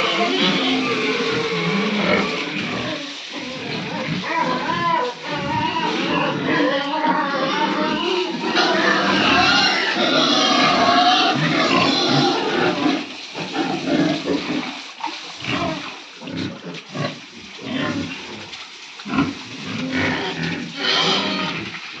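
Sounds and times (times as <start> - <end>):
pigs grunting and squealing: 0.0 - 22.0.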